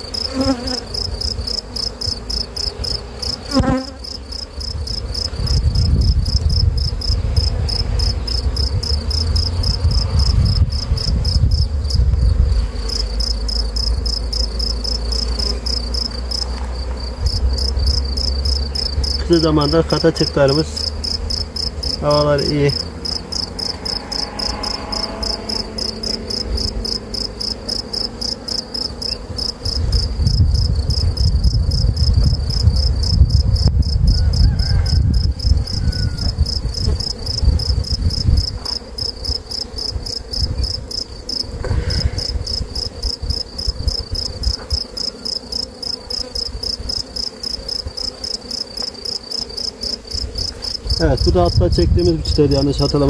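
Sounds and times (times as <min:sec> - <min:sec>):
cricket chirping: 0:00.0 - 0:53.0
faint hum of honeybees: 0:00.0 - 0:53.0.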